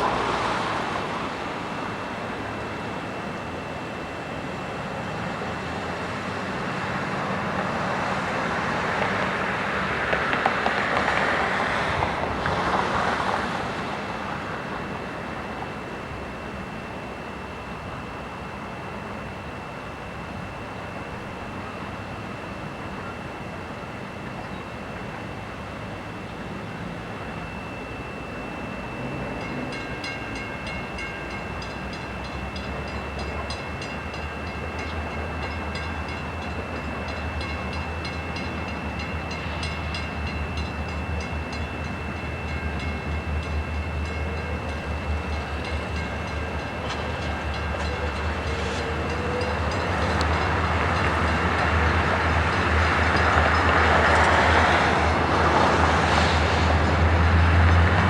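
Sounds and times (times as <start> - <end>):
diesel train engine drone: 0.0 - 58.0
wheel and rail noise: 0.0 - 58.0.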